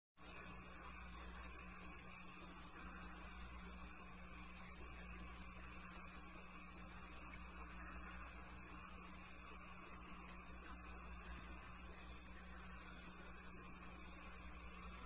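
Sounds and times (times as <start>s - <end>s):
crickets chirping: 0.2s - 15.0s.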